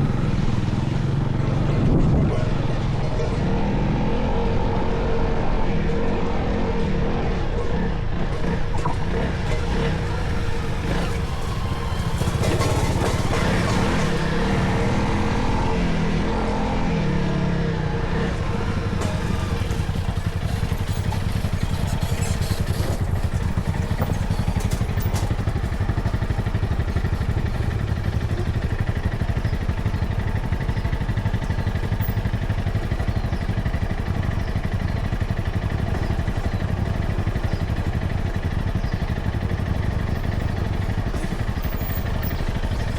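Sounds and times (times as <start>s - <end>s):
road rumble: 0.0s - 42.9s
vehicle engine running: 0.0s - 42.9s.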